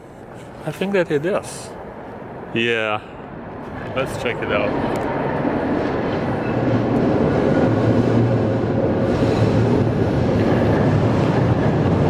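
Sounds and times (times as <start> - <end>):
tram wheels rumbling on rails: 0.6 - 12.0.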